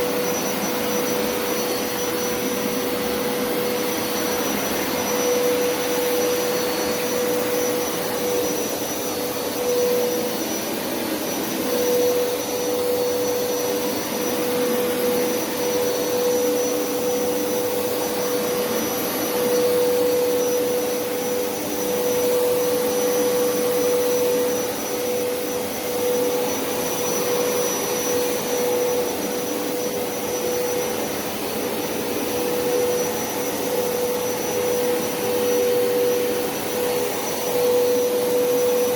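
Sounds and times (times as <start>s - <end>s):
carpet cleaner motor whining: 0.0s - 38.9s.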